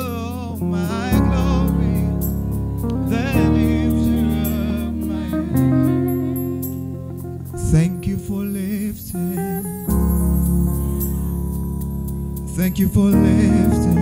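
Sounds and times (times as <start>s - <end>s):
man singing with vibrato: 0.0s - 10.0s, 12.4s - 14.0s
sustained keyboard chords: 0.0s - 14.0s.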